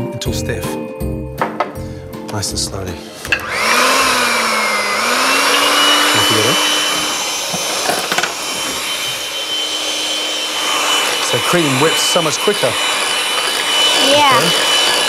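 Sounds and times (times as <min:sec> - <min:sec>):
electric hand mixer whining: 0:02.4 - 0:15.0.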